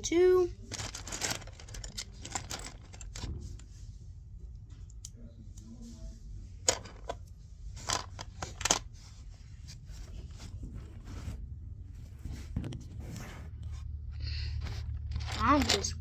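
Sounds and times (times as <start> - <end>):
rustling of material: 0.5 - 4.4, 5.7 - 16.0.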